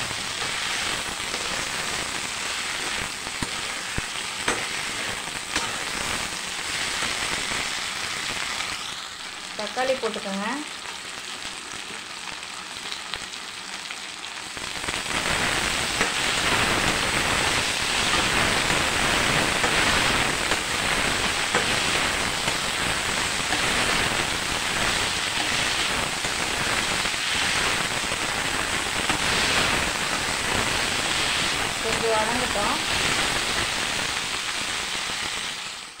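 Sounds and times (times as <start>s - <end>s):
vegetables sizzling in hot oil: 0.0s - 36.0s.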